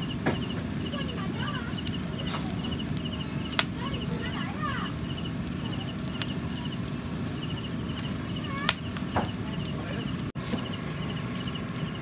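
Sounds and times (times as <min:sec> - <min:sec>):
fire crackling and popping: 0:00.0 - 0:12.0
insects chirping: 0:00.0 - 0:12.0.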